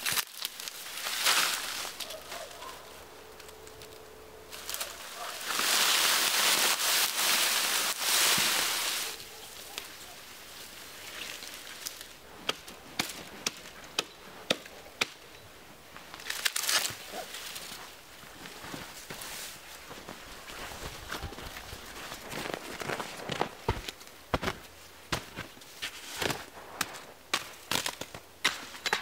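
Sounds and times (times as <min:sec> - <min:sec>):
footsteps crunching in snow: 0:00.0 - 0:14.5, 0:15.5 - 0:28.8
dry reeds rustling and crackling: 0:00.0 - 0:29.0.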